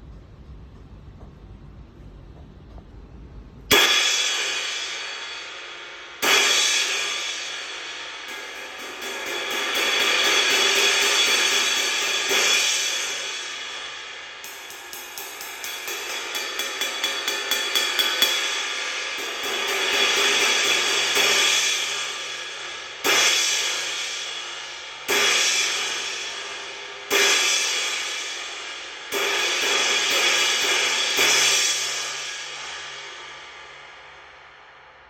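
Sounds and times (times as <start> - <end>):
cymbal crashes: 3.7 - 35.0.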